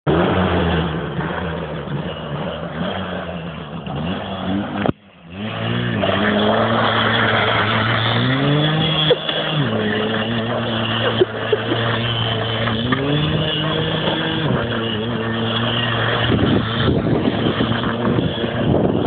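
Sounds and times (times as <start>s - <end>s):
small motorcycle engine revving: 0.1s - 19.0s.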